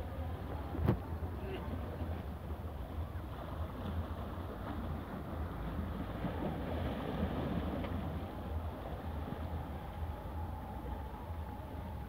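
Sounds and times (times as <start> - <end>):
waves splashing against rocks: 0.0 - 12.0
wind rumble on microphone: 0.0 - 12.0.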